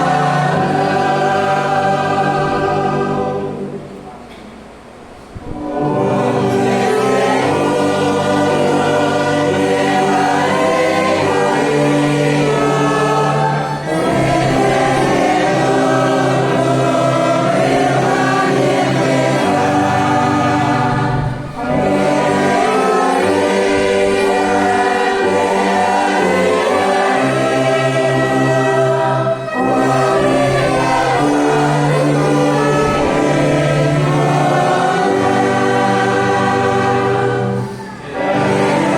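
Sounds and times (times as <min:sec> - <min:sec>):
orchestra playing: 0:00.0 - 0:04.0, 0:05.4 - 0:38.9
congregation singing a hymn: 0:00.0 - 0:38.9.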